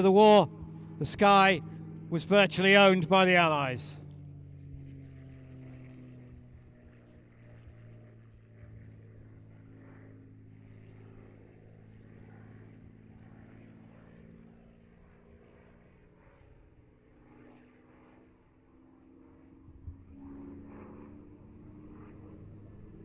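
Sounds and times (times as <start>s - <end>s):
distant propeller plane engine: 0.0s - 23.0s.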